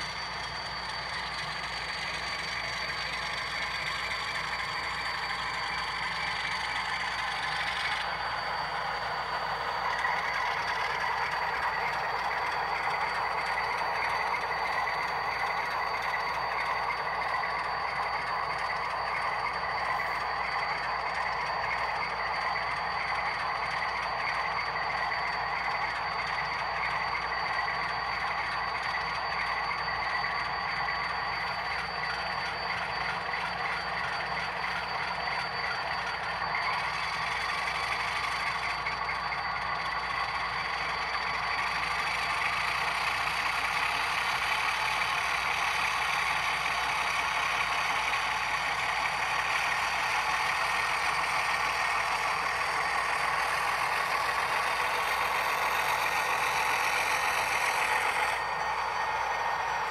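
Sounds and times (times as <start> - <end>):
model locomotive diesel engine: 0.0 - 59.9
thin steady whine: 0.0 - 59.9.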